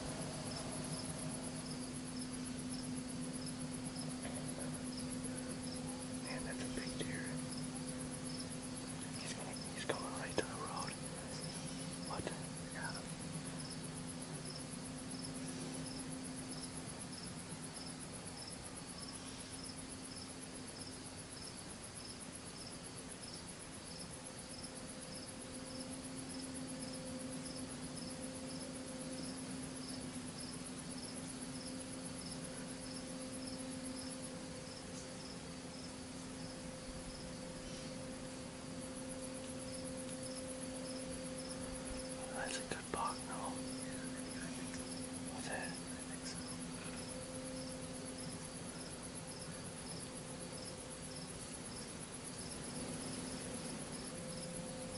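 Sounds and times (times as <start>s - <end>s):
crickets chirping: 0.0s - 54.9s
low hum and hiss: 0.0s - 54.9s.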